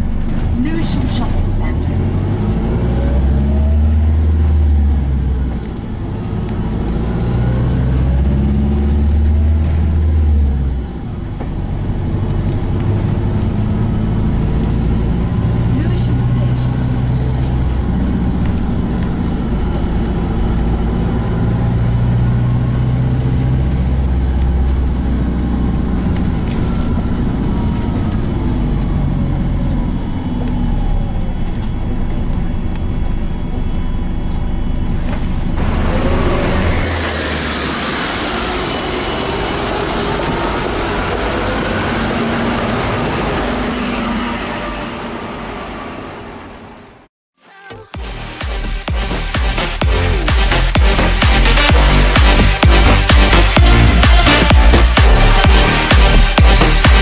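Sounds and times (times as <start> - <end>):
bus drivetrain hum: 0.0 - 47.1
outdoor street noise: 0.0 - 57.0.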